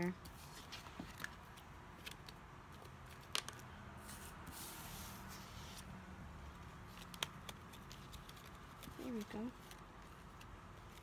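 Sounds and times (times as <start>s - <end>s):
paper rustling: 0.2s - 5.9s, 6.8s - 11.0s.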